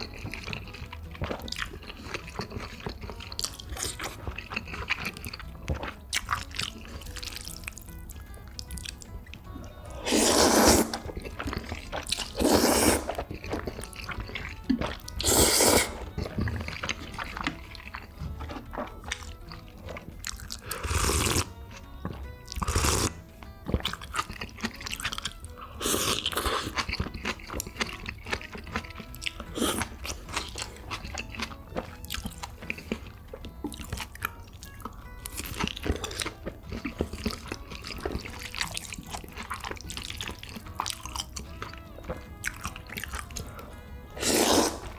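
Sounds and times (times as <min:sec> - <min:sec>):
background music: 0:00.0 - 0:44.9
close chewing and crunching: 0:00.0 - 0:44.9.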